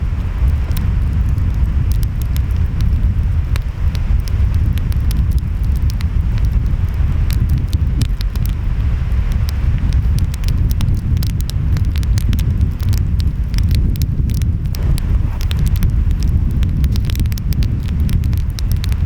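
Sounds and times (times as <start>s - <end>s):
wind: 0.0s - 19.0s
wood fire crackling: 0.0s - 19.0s.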